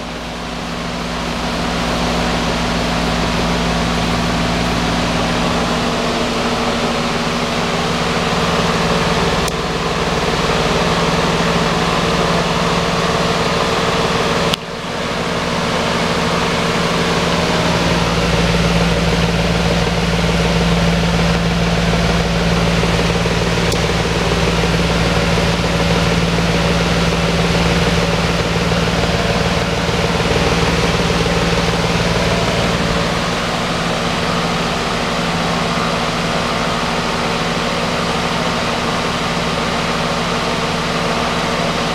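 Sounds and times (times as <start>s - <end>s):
exhaust fan air rush: 0.0s - 41.9s
fan motor hum: 0.0s - 41.9s.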